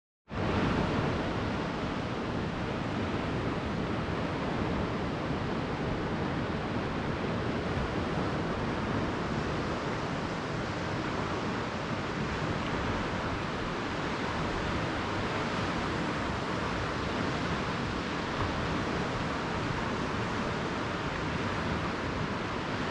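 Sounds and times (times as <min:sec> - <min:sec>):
surf washing onto beach: 0:00.4 - 0:22.9.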